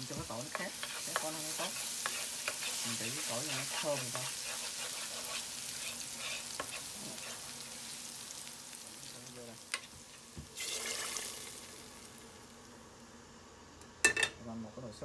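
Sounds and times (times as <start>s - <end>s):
hot oil hissing in broth: 0.0s - 13.0s
garlic sizzling in oil: 0.0s - 13.5s.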